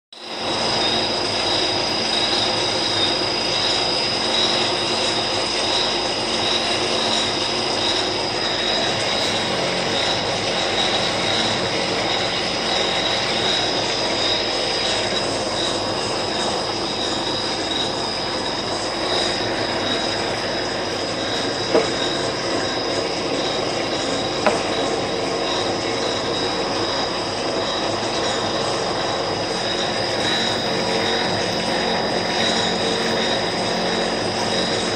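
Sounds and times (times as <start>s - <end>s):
lathe whirring with high whine: 0.2s - 34.9s.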